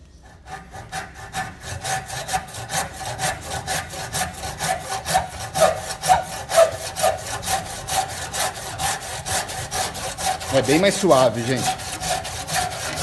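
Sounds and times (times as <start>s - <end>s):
hand saw cutting branch: 0.2s - 13.0s.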